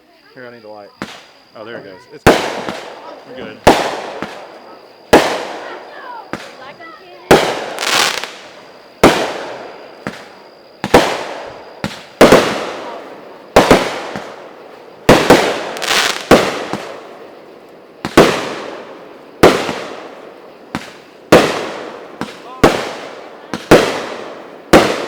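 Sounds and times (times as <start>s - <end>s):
firework cakes banging: 0.5s - 25.0s.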